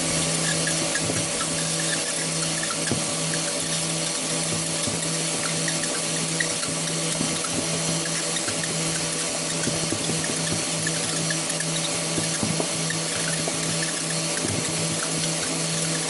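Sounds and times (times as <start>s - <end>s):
power tool spinning a blade: 0.0s - 16.0s.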